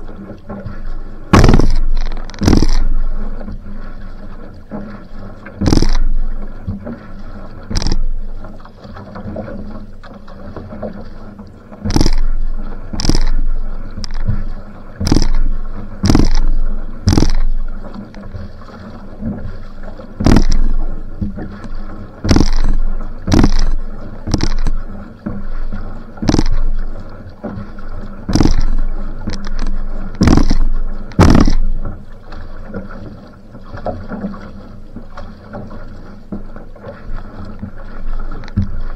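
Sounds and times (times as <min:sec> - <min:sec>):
paddle splashing into water: 0:00.0 - 0:38.9
water noise along hull: 0:00.0 - 0:38.9.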